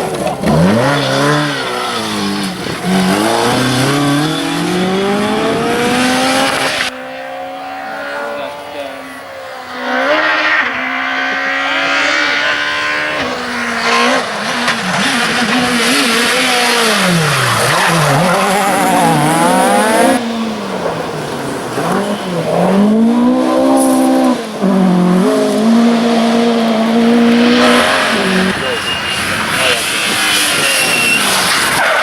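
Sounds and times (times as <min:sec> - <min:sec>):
rally car engine at full throttle: 0:00.0 - 0:32.0.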